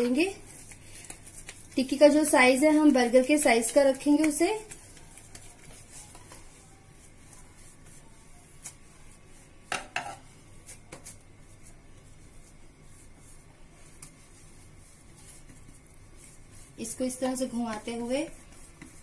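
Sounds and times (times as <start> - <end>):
hands shaping dough: 0.0 - 19.0.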